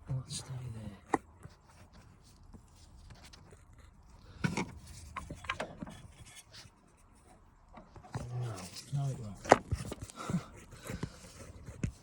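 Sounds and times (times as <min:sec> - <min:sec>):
handling noises rubbing and scraping: 0:00.2 - 0:12.0.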